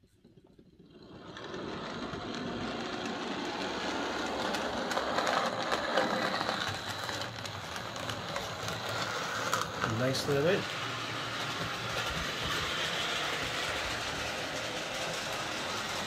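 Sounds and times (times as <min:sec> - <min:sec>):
model train whirring and clicking: 0:00.2 - 0:16.0.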